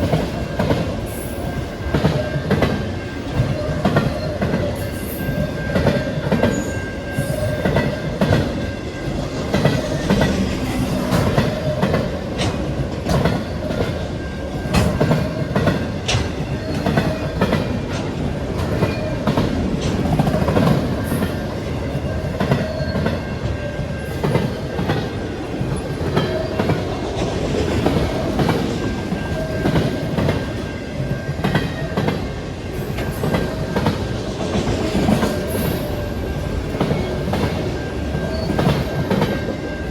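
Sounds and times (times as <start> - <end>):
train rumble: 0.0 - 39.9
train wheels clacking: 0.0 - 39.9.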